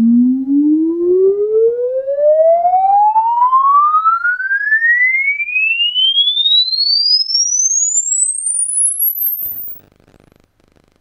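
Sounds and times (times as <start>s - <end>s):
rising sine-wave tone sweep: 0.0s - 9.8s.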